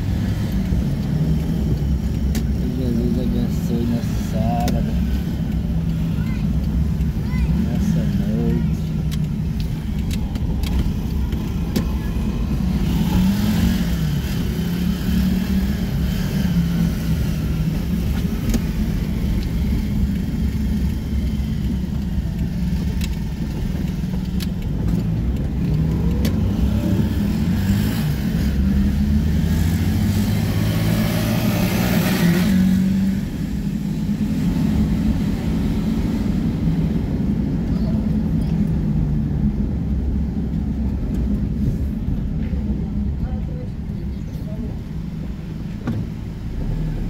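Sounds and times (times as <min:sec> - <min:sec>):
car engine: 0:00.0 - 0:47.0
road noise: 0:00.0 - 0:47.0.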